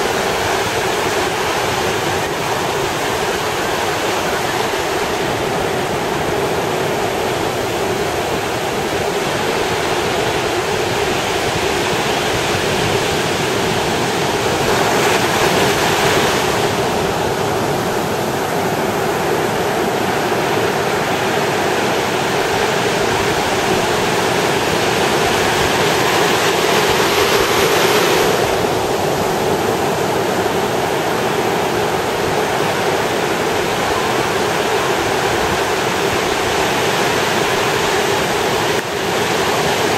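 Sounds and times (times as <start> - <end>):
waves breaking on sand: 0.0 - 39.9.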